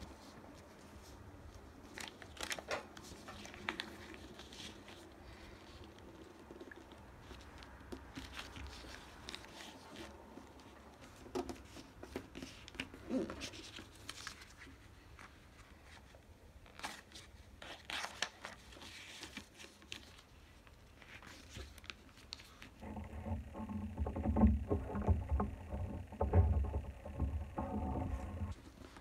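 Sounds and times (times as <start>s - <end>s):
paper being folded and creased: 0.2s - 6.3s, 7.2s - 24.4s.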